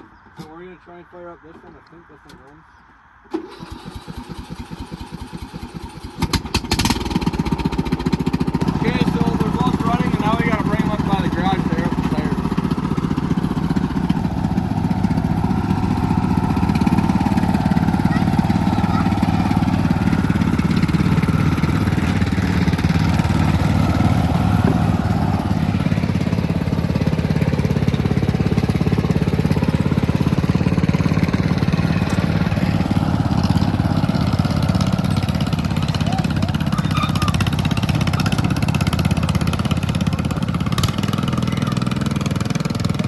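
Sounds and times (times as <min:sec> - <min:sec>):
lawn mower engines running: 0:00.0 - 0:43.0.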